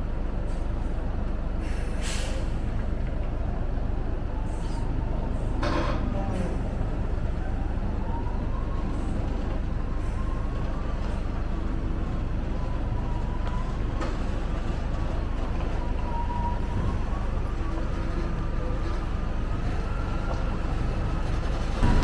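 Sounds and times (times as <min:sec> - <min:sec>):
tractor engine rumble: 0:00.0 - 0:22.0.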